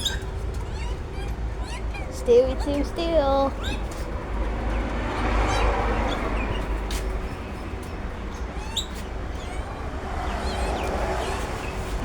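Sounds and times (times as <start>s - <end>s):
magpies chirping: 0.0s - 11.9s.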